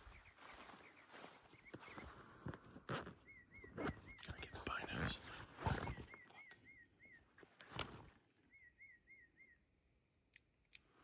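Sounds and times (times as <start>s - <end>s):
insect chorus hiss: 0.0s - 11.0s.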